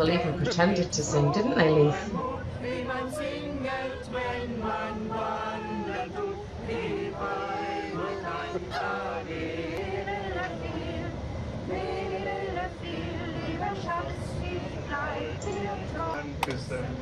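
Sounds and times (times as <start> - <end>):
group singing in unison: 0.0 - 17.0.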